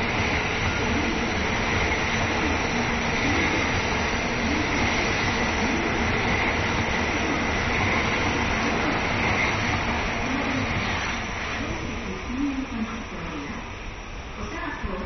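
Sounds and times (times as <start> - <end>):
faint wavering hum: 0.0 - 15.0
train rumble: 0.0 - 15.0.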